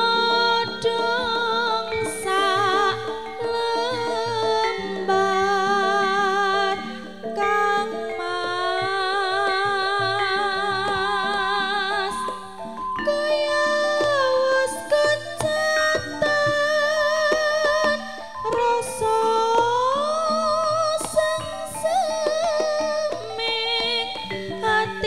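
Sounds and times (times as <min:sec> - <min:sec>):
woman singing with vibrato: 0:00.0 - 0:25.0.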